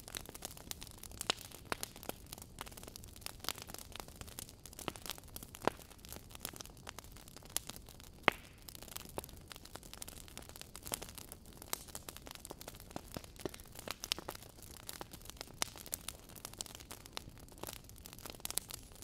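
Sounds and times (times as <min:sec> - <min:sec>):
burning logs crackling: 0:00.0 - 0:19.0.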